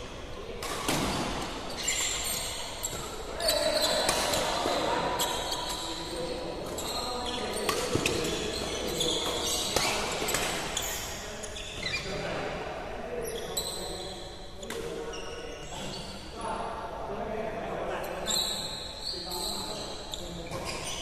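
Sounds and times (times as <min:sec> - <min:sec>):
shoes squeaking on floor: 0:01.1 - 0:12.2, 0:13.2 - 0:16.2, 0:18.2 - 0:21.0.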